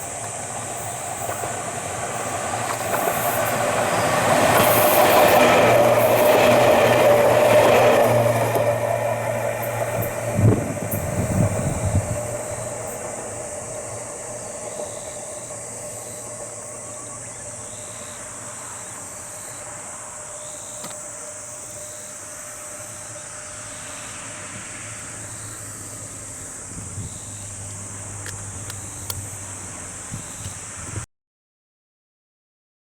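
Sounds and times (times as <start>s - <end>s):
electric train rumbling: 0.0s - 31.1s
insect drone: 0.0s - 31.1s.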